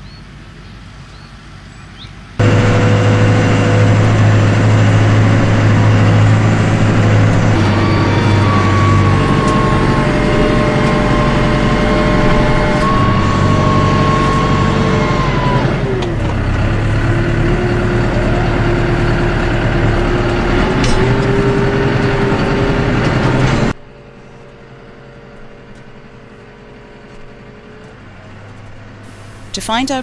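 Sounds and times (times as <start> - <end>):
tractor engine running under load: 2.4 - 30.0.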